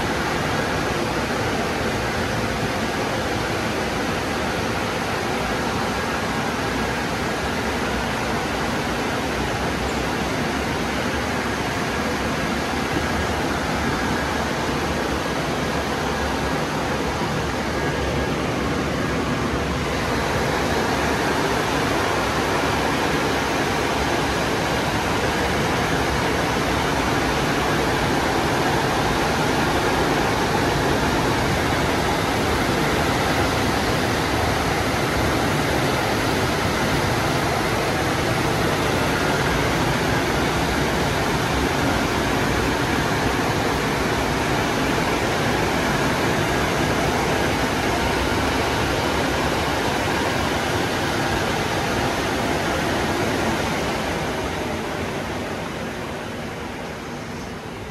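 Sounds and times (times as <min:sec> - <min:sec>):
car wash rushing noise: 0:00.0 - 0:57.9.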